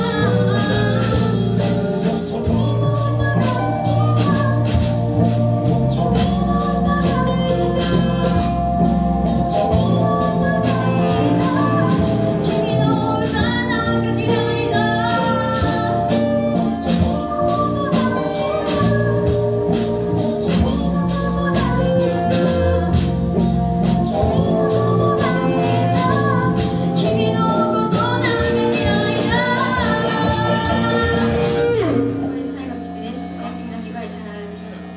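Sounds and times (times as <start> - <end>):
woman singing: 0.0 - 34.8
bass: 0.0 - 34.9
organ-like keyboard chords: 0.0 - 34.9.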